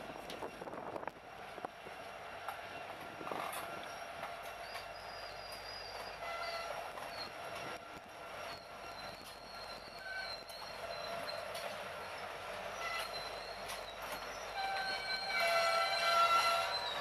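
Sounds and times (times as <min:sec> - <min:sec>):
diesel locomotives running past: 0:00.0 - 0:17.0.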